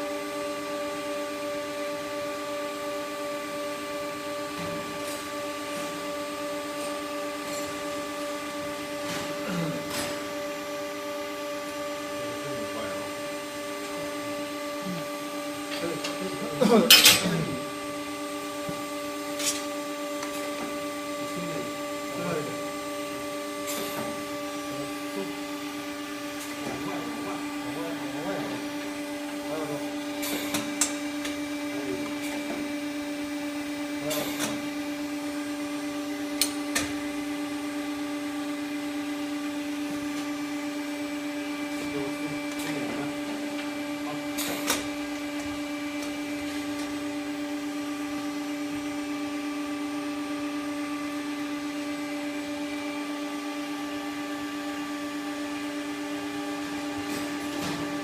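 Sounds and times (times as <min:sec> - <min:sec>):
hydraulic machine humming: 0:00.0 - 0:58.0.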